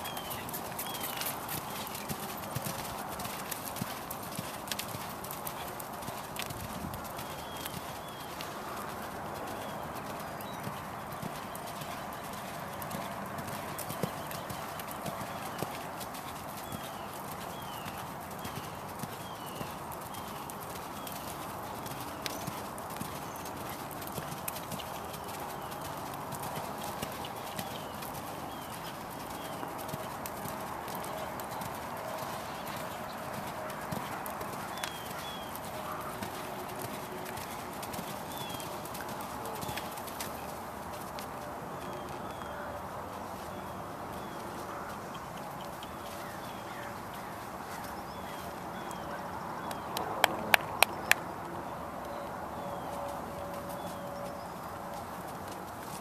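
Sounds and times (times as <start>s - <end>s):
horse hoofbeats on soft dirt: 0.0s - 56.0s.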